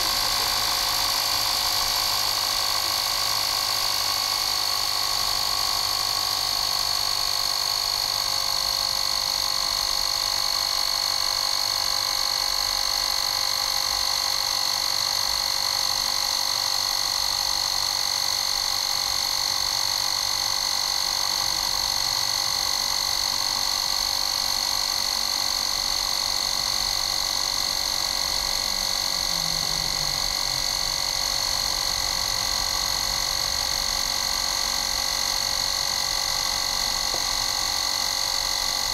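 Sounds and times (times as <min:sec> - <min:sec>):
mini compressor buzzing whine: 0:00.0 - 0:38.9.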